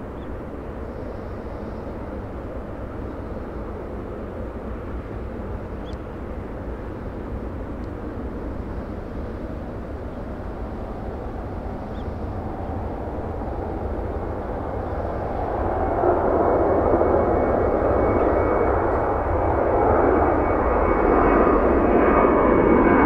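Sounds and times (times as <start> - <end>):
high fan whine: 0.0 - 23.0
jet engine rumble: 0.0 - 23.0.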